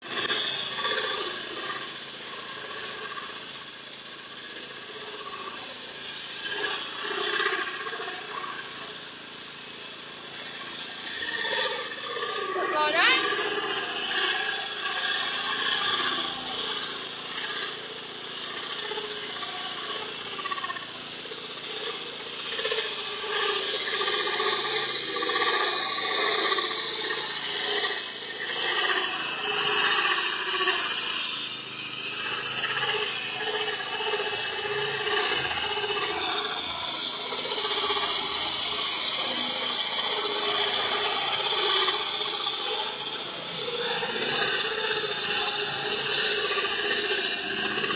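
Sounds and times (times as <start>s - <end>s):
core drill running: 0.1s - 47.9s.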